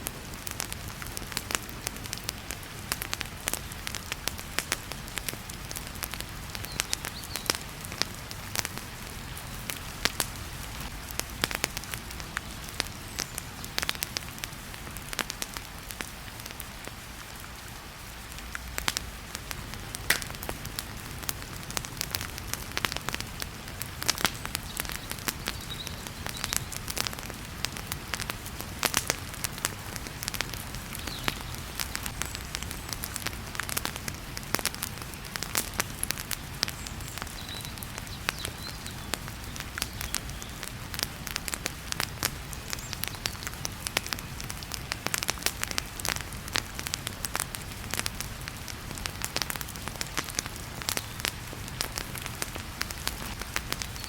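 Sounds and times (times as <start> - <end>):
fire crackling and popping: 0.0 - 54.0
heavy rain hiss: 0.0 - 54.0.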